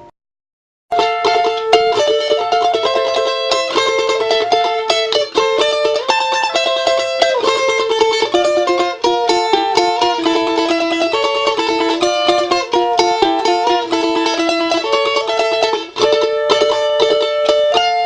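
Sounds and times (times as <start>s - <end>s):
plucked-string instrumental music: 0.9s - 18.0s.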